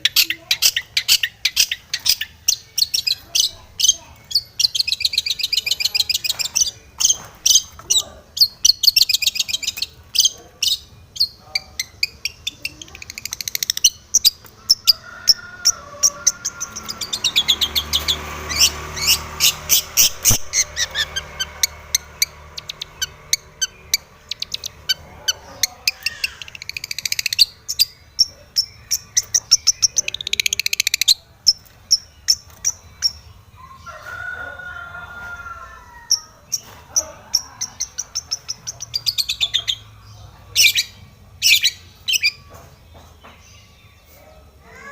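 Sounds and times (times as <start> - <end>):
shrike singing: 0.0 - 42.5.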